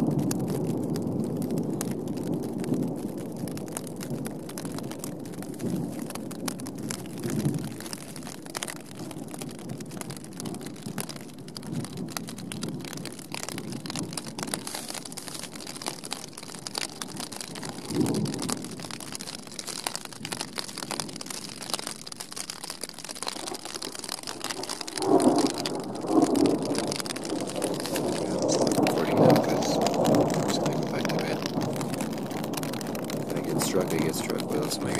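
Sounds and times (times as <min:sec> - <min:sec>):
heavy rain falling: 0:00.0 - 0:34.9
thunder rumbles: 0:00.0 - 0:34.9.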